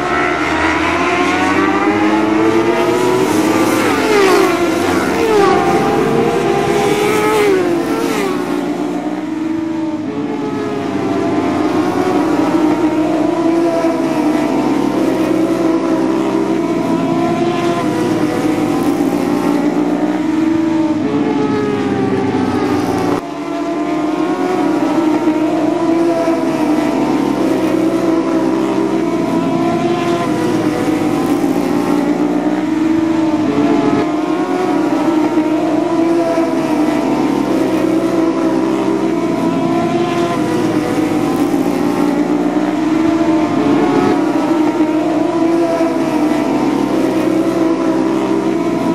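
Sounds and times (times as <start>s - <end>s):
racing motorcycle engines revving: 0.0s - 48.9s.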